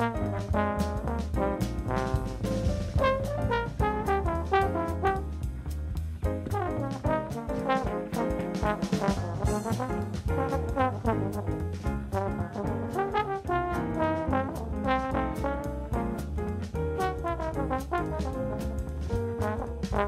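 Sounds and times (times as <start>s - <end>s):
upbeat instrumental music: 0.0s - 20.0s.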